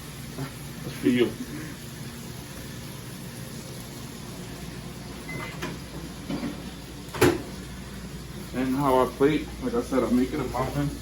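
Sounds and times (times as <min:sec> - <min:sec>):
low hum of kitchen equipment: 0:00.0 - 0:11.0.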